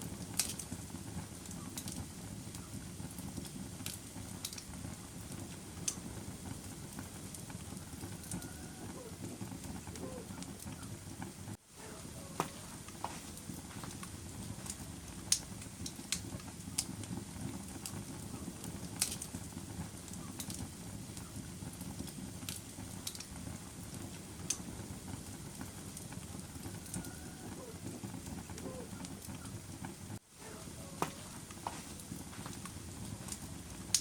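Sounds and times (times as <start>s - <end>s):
low rumble of burning: 0.0s - 34.0s
wood fire crackling and popping: 0.0s - 34.0s.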